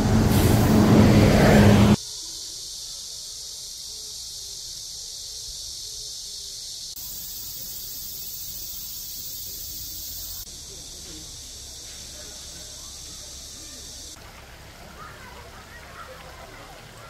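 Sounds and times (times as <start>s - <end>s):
insects buzzing: 0.0s - 14.2s.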